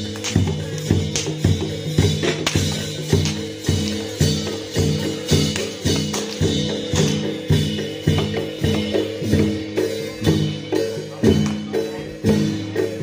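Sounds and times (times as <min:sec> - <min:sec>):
drums and tuned gongs: 0:00.0 - 0:13.0.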